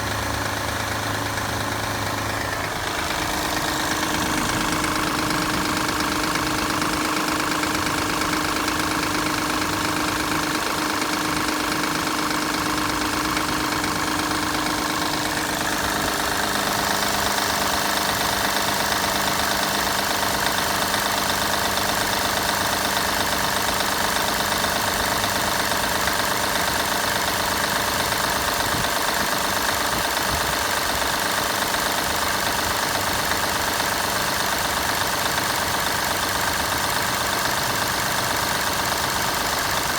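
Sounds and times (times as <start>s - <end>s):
car engine idling with whine: 0.0s - 39.9s.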